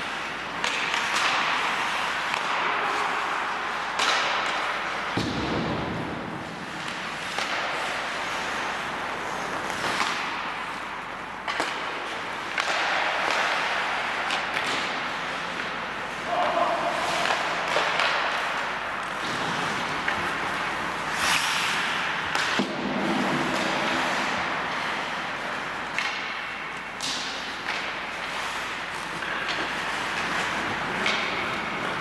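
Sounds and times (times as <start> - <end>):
skate blades scraping ice: 0.0 - 5.2, 5.9 - 32.0
knocks of sticks and puck: 0.0 - 32.0.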